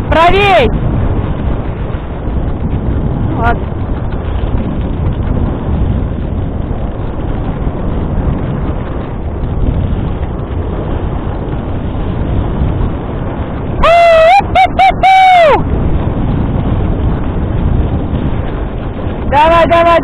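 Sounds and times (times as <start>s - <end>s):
dog sled running over snow: 0.0s - 20.0s
wind on microphone: 0.0s - 20.0s.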